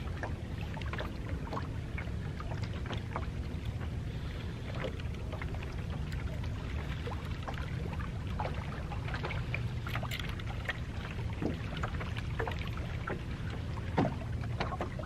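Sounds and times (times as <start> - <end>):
steady low rumble: 0.0 - 15.0
water lapping against boat hull: 0.0 - 15.0.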